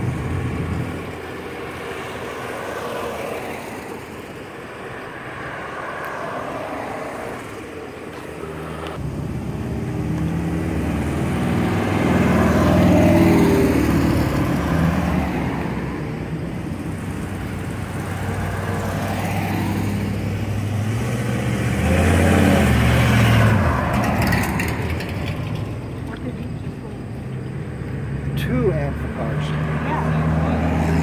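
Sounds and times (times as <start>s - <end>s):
cars driving past: 0.0s - 31.0s.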